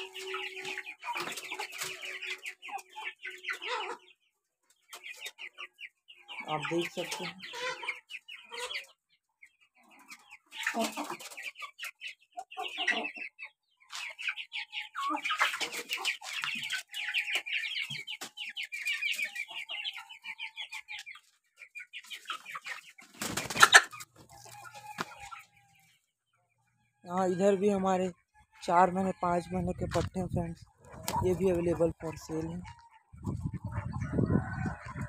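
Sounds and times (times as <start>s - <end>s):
chicks peeping and clucking: 0.0s - 35.0s.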